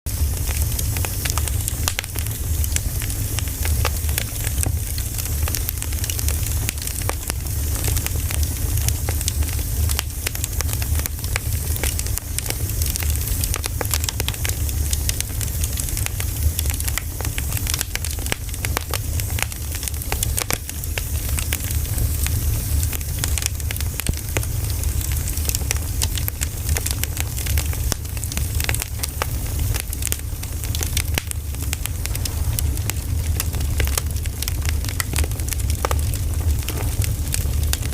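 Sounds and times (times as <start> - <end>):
firewood fire crackling: 0.1 - 37.9.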